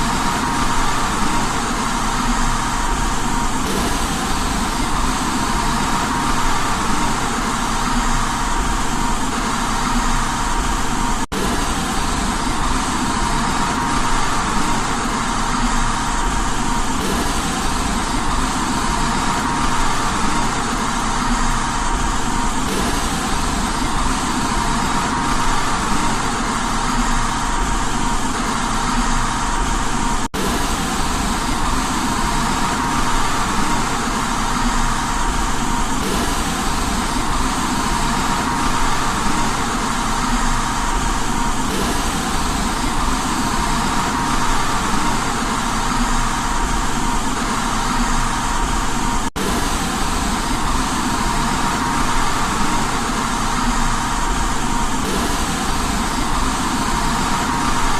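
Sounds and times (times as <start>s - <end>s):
white noise hiss and rumble: 0.0s - 57.9s.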